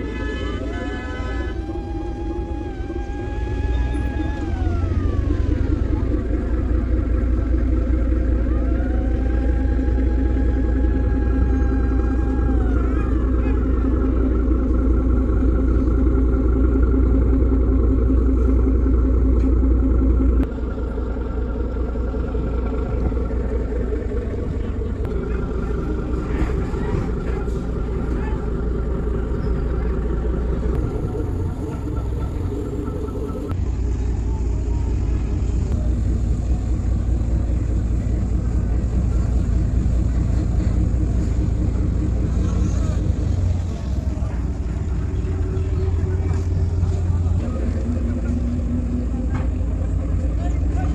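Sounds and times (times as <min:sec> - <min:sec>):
ferry engine drone: 0:00.0 - 0:50.9.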